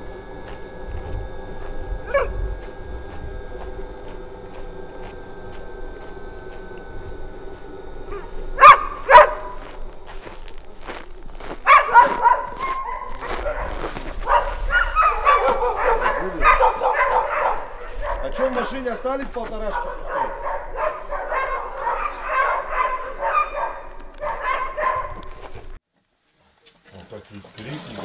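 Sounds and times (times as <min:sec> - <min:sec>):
dogs barking and yipping: 0:00.0 - 0:07.2, 0:08.0 - 0:25.8.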